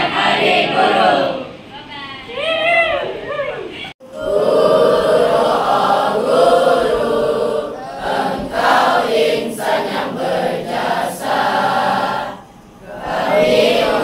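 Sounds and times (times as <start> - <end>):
children singing in unison: 0.0 - 1.6, 4.0 - 14.0.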